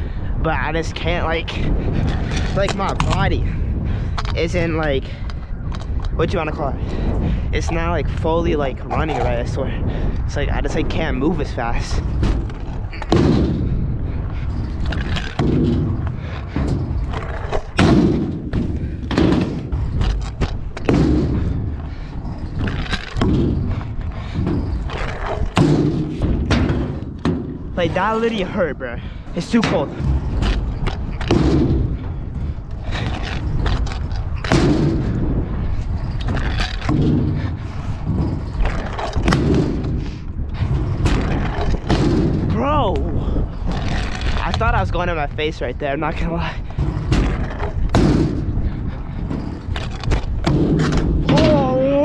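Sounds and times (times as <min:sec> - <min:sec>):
scooter wheels rumbling on ramp: 0:00.0 - 0:52.0
wind buffeting on microphone: 0:00.0 - 0:52.0.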